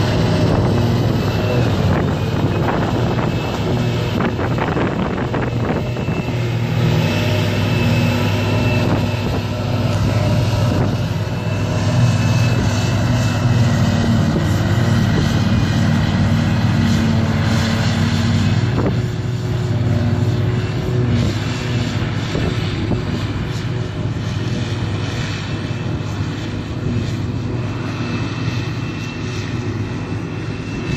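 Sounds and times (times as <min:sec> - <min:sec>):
heavy diesel drone: 0:00.0 - 0:30.9.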